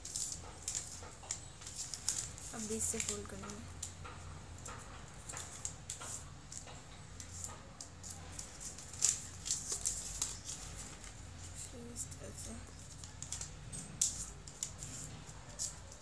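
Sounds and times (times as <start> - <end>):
paper rustling and crackling: 0.0 - 16.0.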